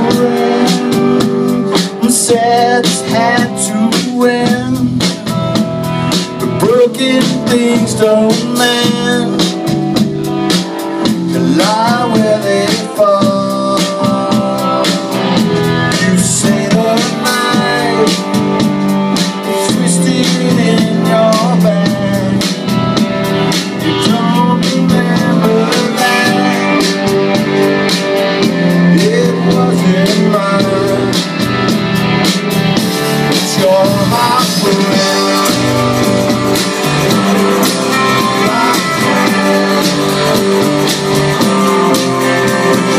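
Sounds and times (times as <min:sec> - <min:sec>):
bass guitar: 0:00.0 - 0:42.9
drum kit beat: 0:00.0 - 0:42.9
guitars: 0:00.0 - 0:42.9.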